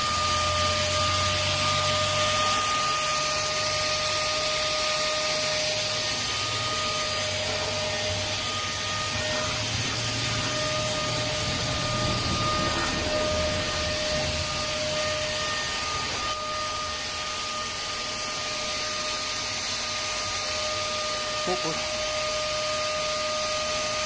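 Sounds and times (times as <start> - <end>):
handheld vacuum cleaner running: 0.0 - 24.0.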